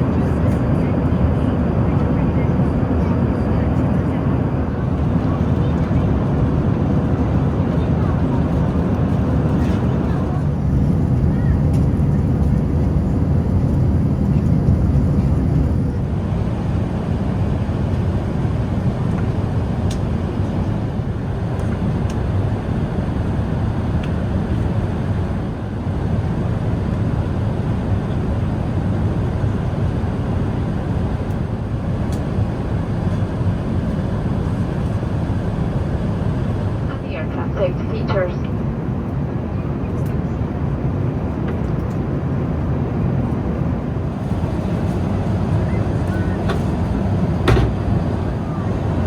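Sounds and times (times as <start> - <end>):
aircraft cabin engine and airflow roar: 0.0 - 49.0.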